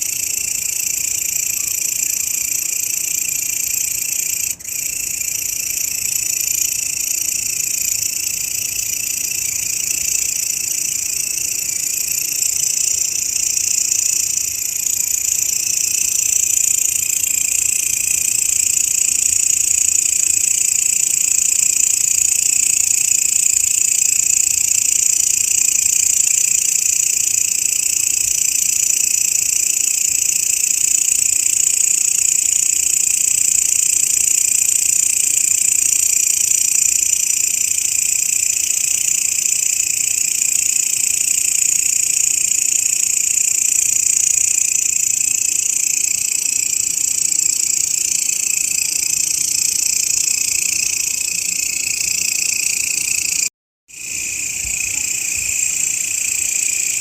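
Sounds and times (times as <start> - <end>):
grasshopper buzzing trill: 0.0 - 57.0.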